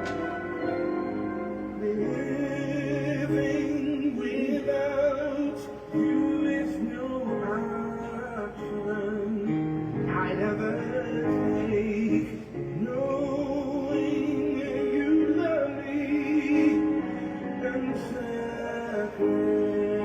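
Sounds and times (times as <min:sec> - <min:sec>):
guitar accompaniment: 0:00.0 - 0:20.0
person singing with vibrato: 0:00.0 - 0:20.0.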